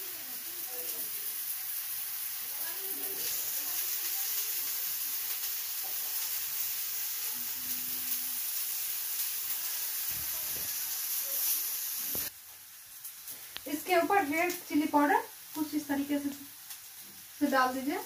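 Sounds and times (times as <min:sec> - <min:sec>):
potato slices sizzling in oil: 0:00.0 - 0:18.0.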